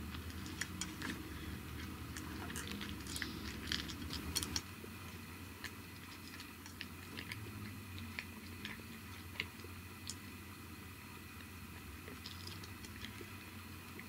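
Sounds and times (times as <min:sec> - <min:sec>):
cat crunching dry kibble: 0:00.0 - 0:10.4, 0:12.0 - 0:14.0.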